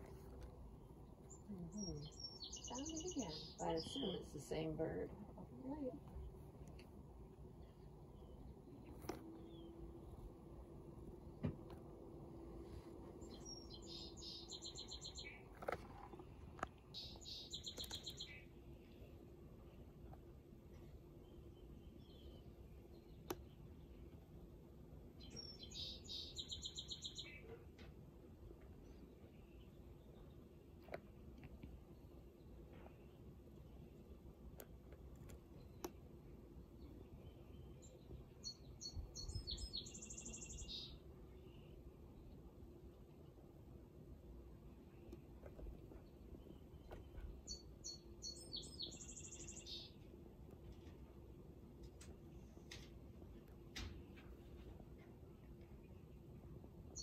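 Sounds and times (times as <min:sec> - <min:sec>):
songbird singing: 0:00.0 - 0:27.9, 0:28.7 - 0:43.6, 0:44.5 - 0:57.0.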